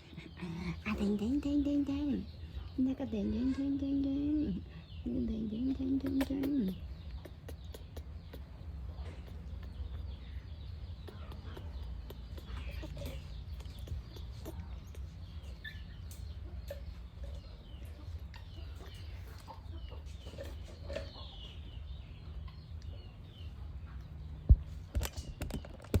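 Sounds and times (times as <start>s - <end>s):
animal calls and clucks: 0.0s - 26.0s.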